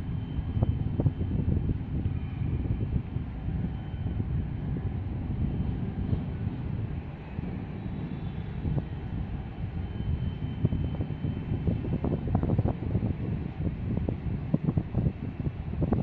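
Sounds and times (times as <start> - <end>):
ship engine rumble: 0.0 - 16.0
wind buffeting microphone: 0.0 - 16.0.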